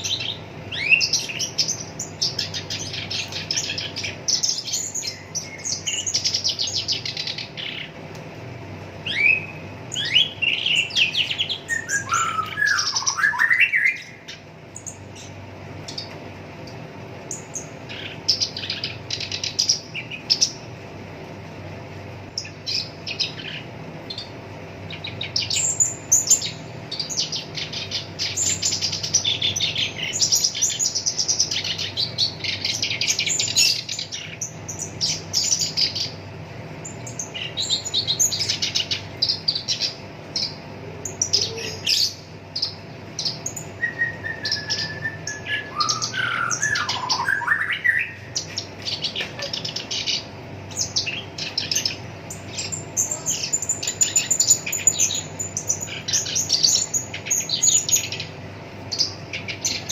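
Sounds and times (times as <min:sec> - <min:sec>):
warbler singing harsh chattering: 0:00.0 - 0:08.1, 0:09.0 - 0:20.8, 0:21.7 - 0:59.9
faint steady hum: 0:00.0 - 0:59.9.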